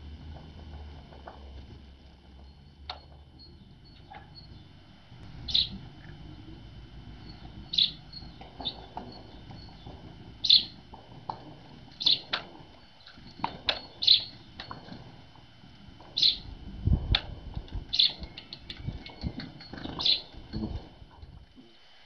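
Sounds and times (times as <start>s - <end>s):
birds chirping: 0.3s - 21.0s.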